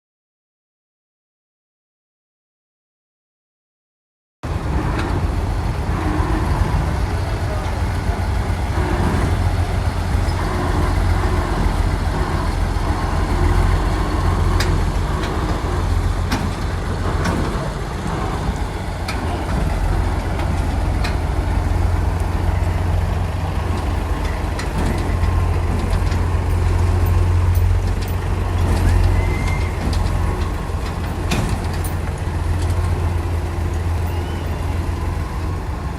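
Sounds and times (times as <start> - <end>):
combine harvester engine rumbling: 4.4 - 35.9.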